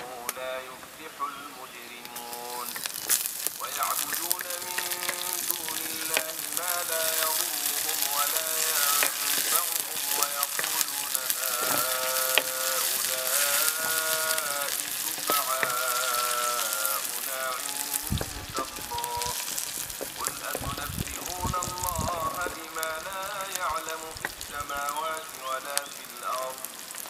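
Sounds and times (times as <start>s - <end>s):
peppers sizzling in a frying pan: 2.0s - 27.0s
wooden spatula scraping a pan: 2.2s - 24.4s.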